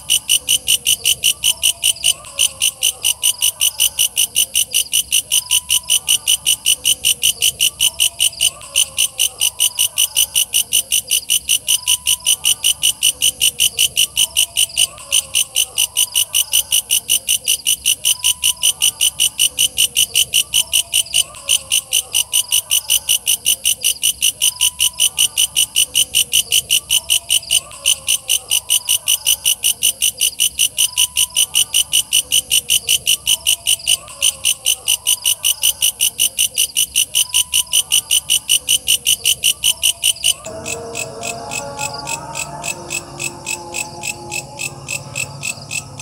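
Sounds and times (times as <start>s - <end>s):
katydid calling: 0.0s - 46.0s.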